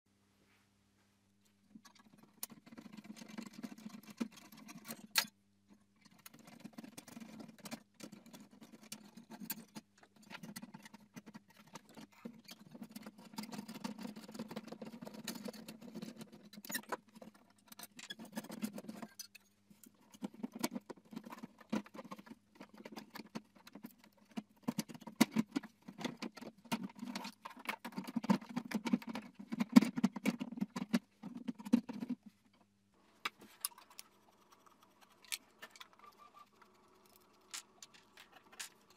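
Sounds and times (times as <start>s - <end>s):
plastic clicking and rattling: 6.0s - 32.7s, 33.3s - 38.9s.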